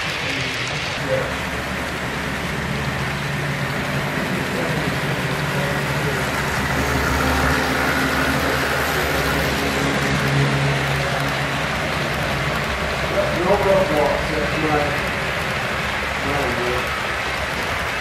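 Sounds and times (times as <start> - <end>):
model trains rolling on track: 0.0 - 18.0.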